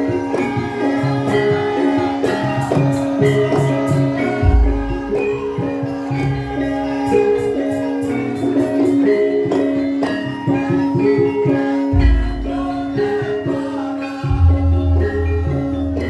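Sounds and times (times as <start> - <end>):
metallophone melody: 0.0 - 16.0
steady held tone: 0.0 - 16.0.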